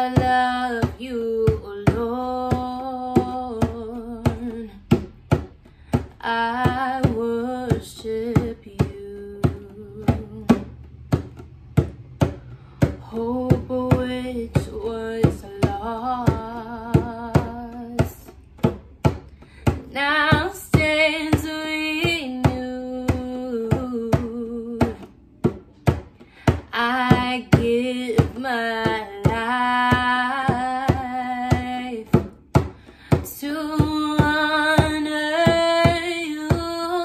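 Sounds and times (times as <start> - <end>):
hand drum beating: 0.0 - 37.0
woman singing: 0.0 - 37.0.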